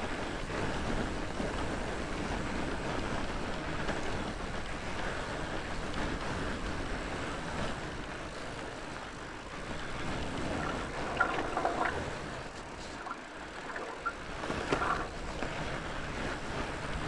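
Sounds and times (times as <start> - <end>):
bike tyre noise: 0.0 - 17.0.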